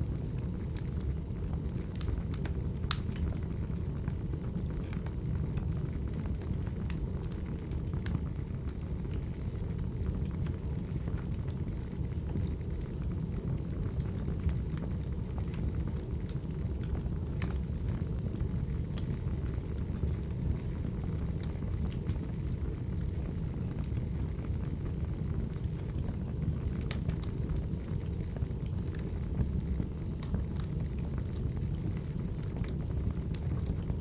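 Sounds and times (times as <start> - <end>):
firewood crackling and popping: 0.0 - 34.0
low rumble of flames: 0.0 - 34.0.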